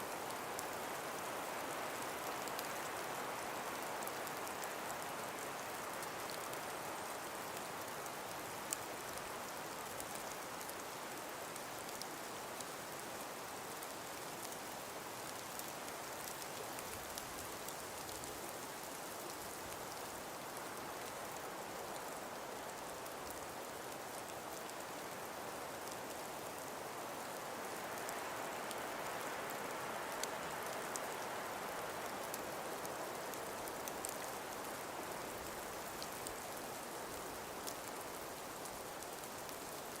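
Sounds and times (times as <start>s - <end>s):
breeze through trees: 0.0s - 40.0s
faint light ticks: 0.2s - 40.0s.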